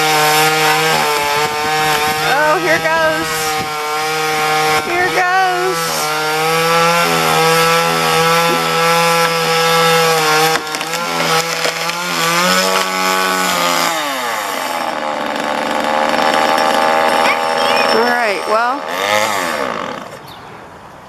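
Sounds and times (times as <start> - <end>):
chainsaw cutting tree limb: 0.0 - 20.3.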